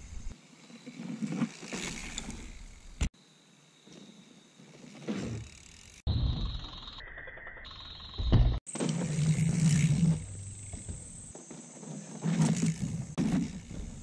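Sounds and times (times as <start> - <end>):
bike tyres rolling over dirt: 0.0 - 3.1, 3.8 - 6.6, 8.4 - 14.0.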